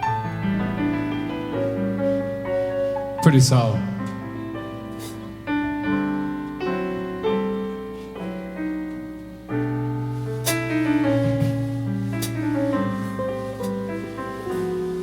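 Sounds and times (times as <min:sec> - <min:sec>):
piano playing jazz chords: 0:00.0 - 0:15.0.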